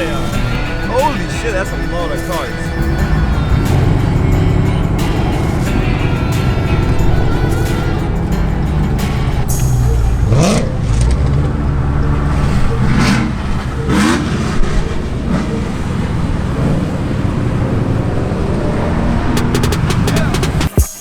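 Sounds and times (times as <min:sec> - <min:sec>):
car engines rumbling: 0:00.0 - 0:20.8
engine revving: 0:00.0 - 0:20.8.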